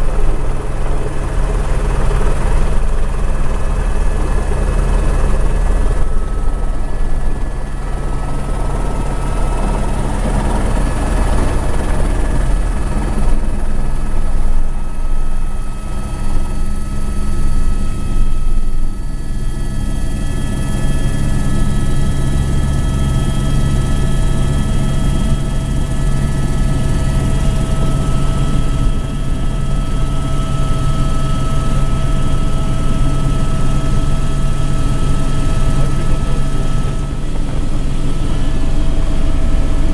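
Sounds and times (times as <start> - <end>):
helicopter rotor throb: 0.0 - 39.9
helicopter turbine whine: 0.0 - 39.9.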